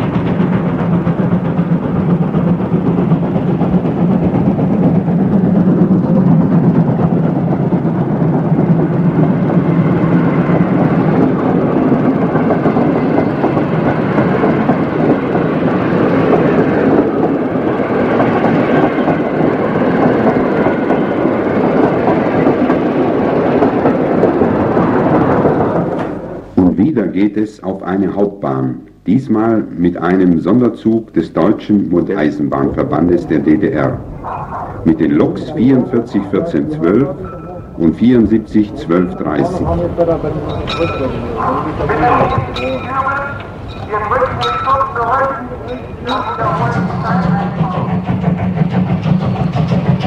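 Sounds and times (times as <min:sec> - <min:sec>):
steam locomotive running: 0:00.0 - 0:50.0.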